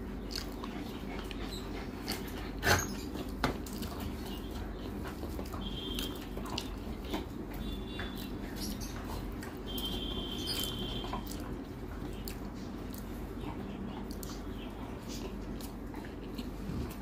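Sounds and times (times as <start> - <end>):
wet squishes of food mixing: 0.0 - 17.0.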